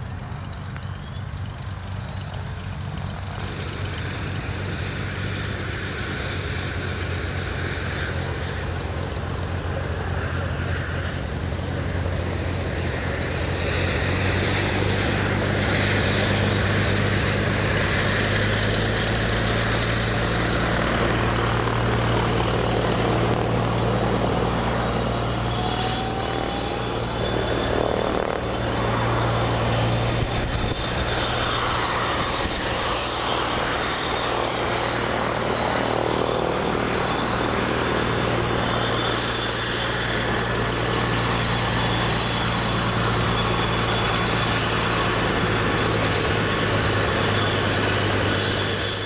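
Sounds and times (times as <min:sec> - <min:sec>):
light aircraft engine droning: 0:00.0 - 0:49.0.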